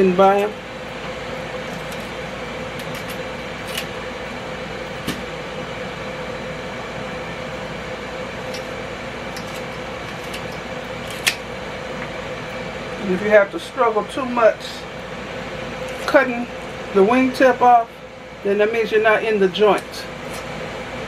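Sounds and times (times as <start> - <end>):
air fryer fan whirring: 0.0 - 21.0.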